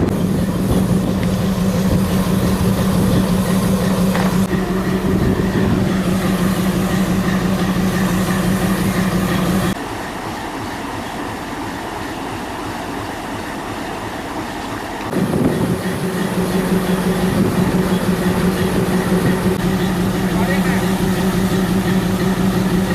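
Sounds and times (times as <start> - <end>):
train engine hum: 0.0 - 22.9
train rumble: 0.0 - 22.9.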